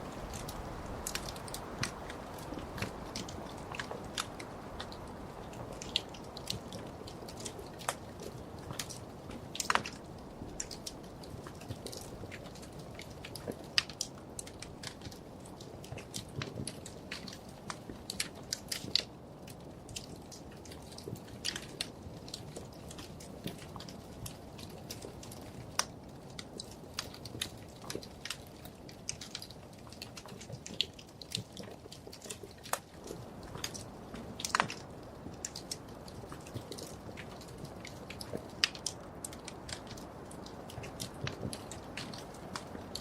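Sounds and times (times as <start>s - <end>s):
fire crackling and popping: 0.0s - 43.0s.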